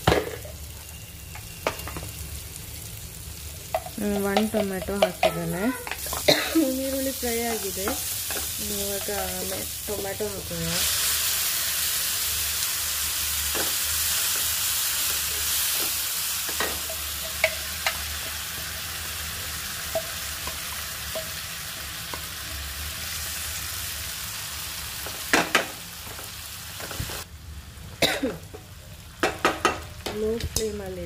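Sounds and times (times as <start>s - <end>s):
tomato pulp sizzling in hot oil: 0.0s - 31.0s.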